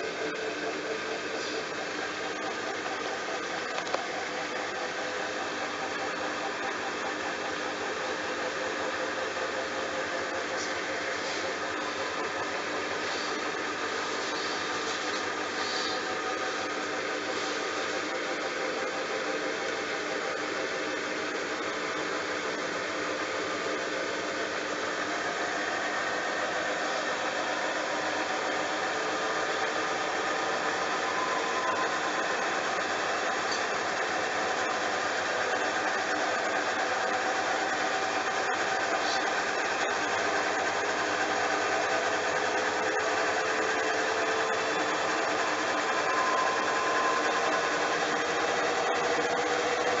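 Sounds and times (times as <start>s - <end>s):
motor whine rising in pitch: 0.0s - 50.0s
washing machine whirring: 0.0s - 50.0s.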